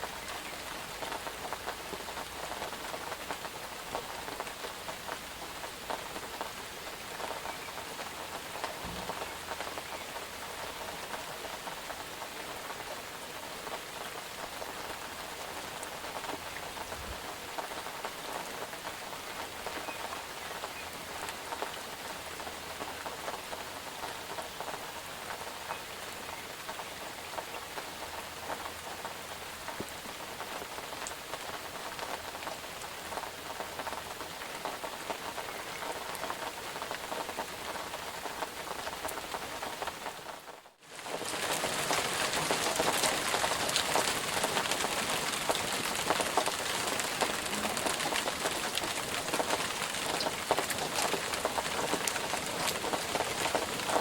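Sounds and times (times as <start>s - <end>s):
raindrop ticks: 0.0s - 54.0s
steady rain hiss: 0.0s - 54.0s.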